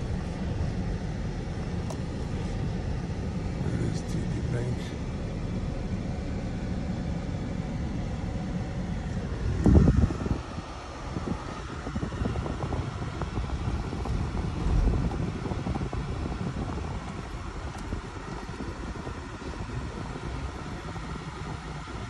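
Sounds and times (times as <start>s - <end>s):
car interior engine and tyre rumble: 0.0s - 22.0s.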